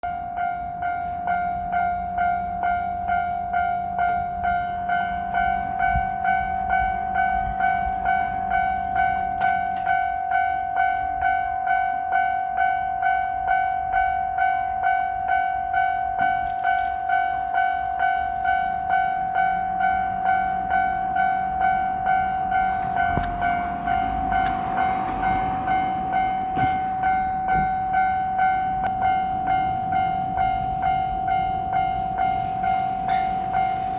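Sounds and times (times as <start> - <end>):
electric train passing: 0.0 - 33.9
level-crossing warning bell: 0.0 - 33.9.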